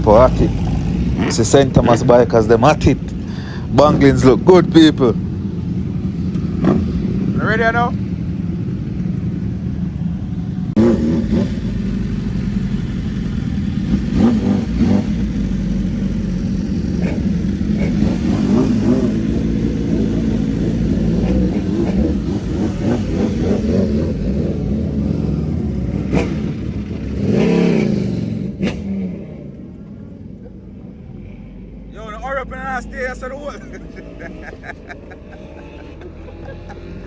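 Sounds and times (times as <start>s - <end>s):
motorbike engines revving: 0.0s - 37.0s.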